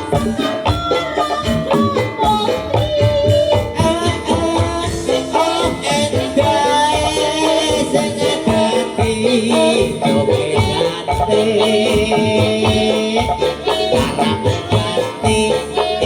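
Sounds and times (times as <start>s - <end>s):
drum rhythm: 0.0s - 16.0s
wavering melodic line: 0.0s - 16.0s.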